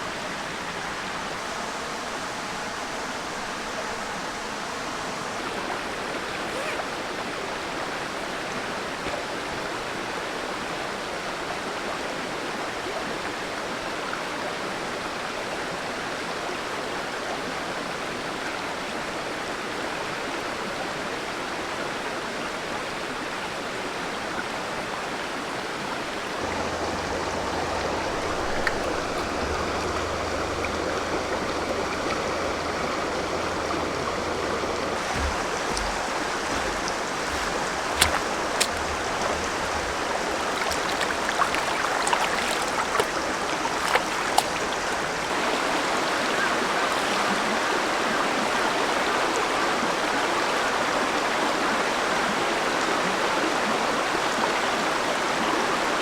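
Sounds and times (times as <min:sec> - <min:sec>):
river water running: 0:00.0 - 0:20.8, 0:23.0 - 0:56.0.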